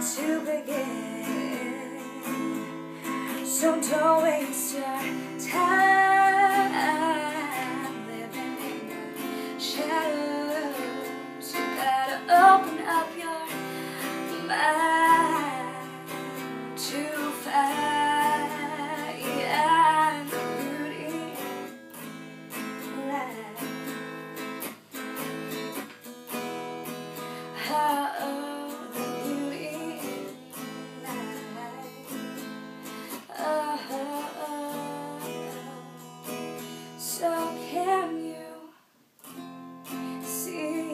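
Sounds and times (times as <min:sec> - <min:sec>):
woman singing: 0:00.0 - 0:24.1, 0:27.4 - 0:38.8, 0:39.9 - 0:40.9
acoustic guitar strumming: 0:00.0 - 0:38.1.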